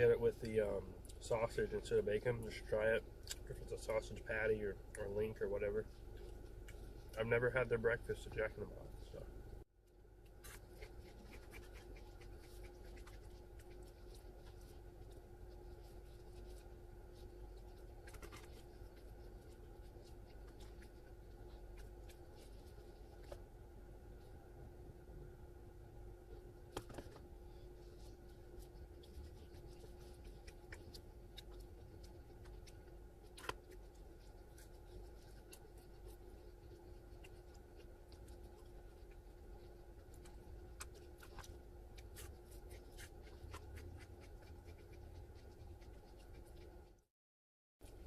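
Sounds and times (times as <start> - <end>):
faint steady hum: 0.0 - 47.1.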